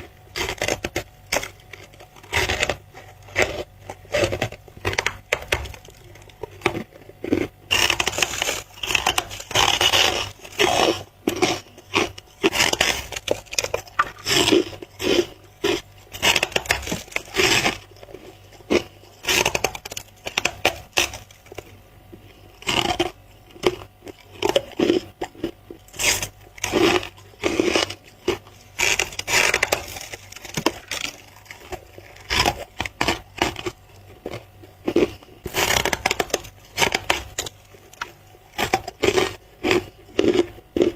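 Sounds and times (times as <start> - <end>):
chewing and crunching ice: 0.0 - 40.9.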